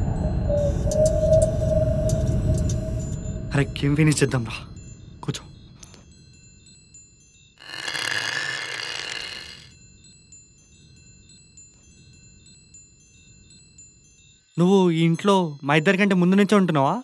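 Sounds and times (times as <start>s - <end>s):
faint high tinkling: 0.0s - 7.6s, 9.7s - 17.0s.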